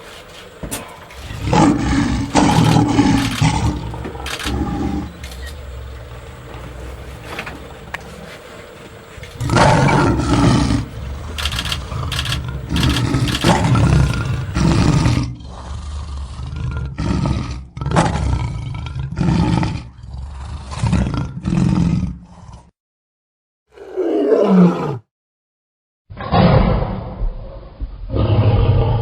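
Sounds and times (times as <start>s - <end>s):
lion roaring: 0.4s - 22.7s, 23.7s - 25.1s, 26.1s - 29.0s.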